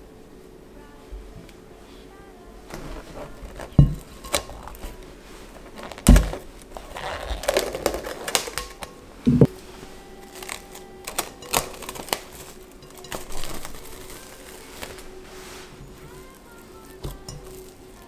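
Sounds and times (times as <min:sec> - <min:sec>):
plastic cling wrap crinkling: 0:02.7 - 0:18.0.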